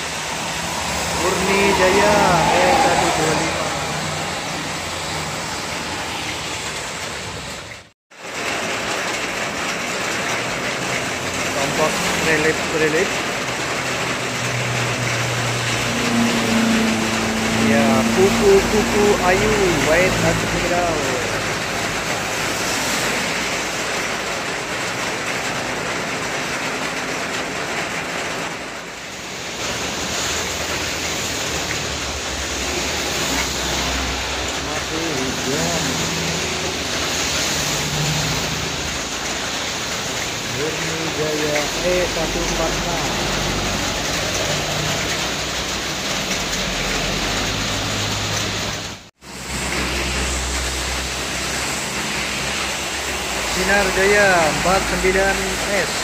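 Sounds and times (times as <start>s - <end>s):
heavy rain: 0.0s - 56.0s
traffic hissing on wet road: 0.0s - 56.0s
vehicle engines running: 0.0s - 56.0s.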